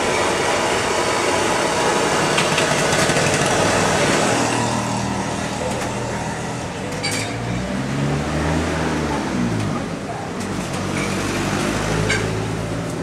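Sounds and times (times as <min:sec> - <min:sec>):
passing motor traffic: 0:01.6 - 0:13.0.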